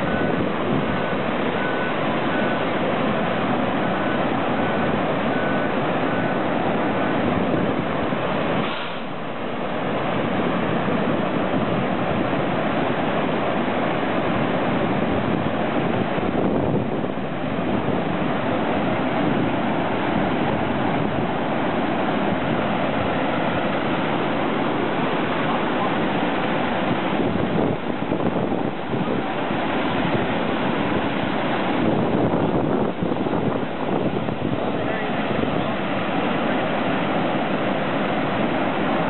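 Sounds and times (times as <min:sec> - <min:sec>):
flood water rushing: 0:00.0 - 0:39.0.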